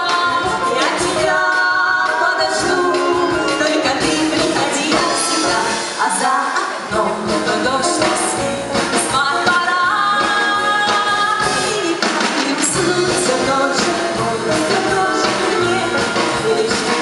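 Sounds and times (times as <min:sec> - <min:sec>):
live band playing pop song: 0:00.0 - 0:17.0
women singing: 0:00.0 - 0:17.0.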